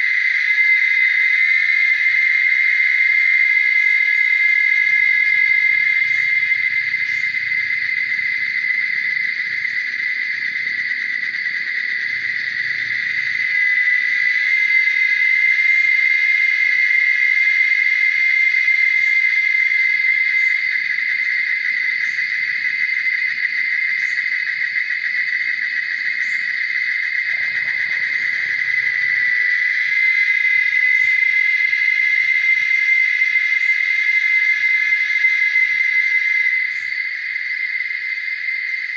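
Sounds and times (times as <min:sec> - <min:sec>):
insect chorus buzzing: 0:00.0 - 0:38.9.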